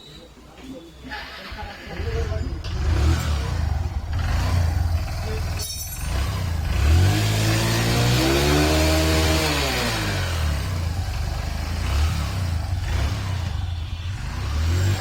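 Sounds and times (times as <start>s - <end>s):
motorcycle engine: 1.1s - 15.0s.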